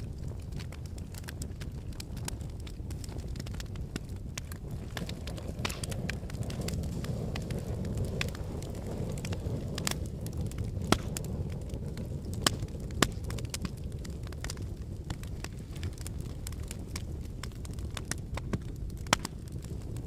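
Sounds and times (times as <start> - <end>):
fire crackling: 0.0 - 20.0
sharp pops of burning wood: 0.0 - 20.0.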